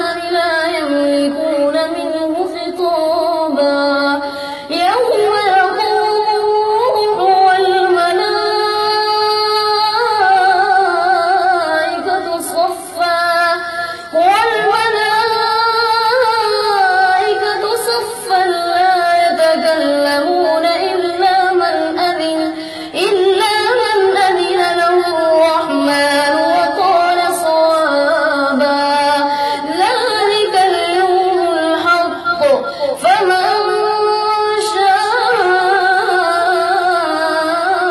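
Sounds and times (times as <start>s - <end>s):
boy chanting melodically: 0.0s - 37.9s.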